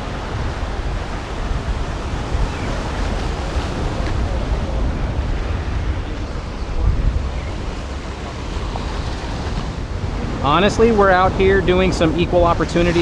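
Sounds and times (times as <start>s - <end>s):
wave noise: 0.0s - 13.0s
wind buffeting microphone: 0.0s - 13.0s.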